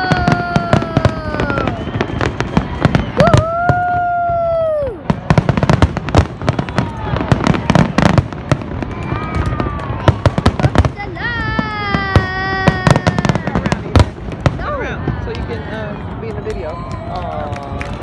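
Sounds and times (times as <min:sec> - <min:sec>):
fireworks whistling: 0:00.0 - 0:14.8
fireworks crackling and banging: 0:00.0 - 0:18.0.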